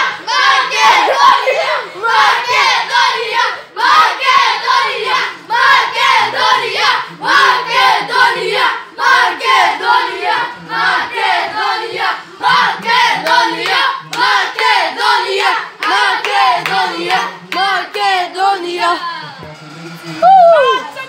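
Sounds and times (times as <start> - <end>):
children chanting and singing: 0.0 - 19.4.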